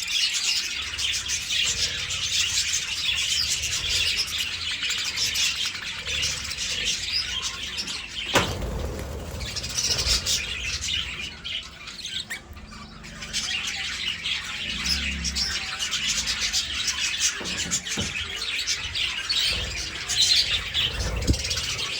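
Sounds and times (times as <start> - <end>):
budgerigars chattering and chirping: 0.0 - 21.9.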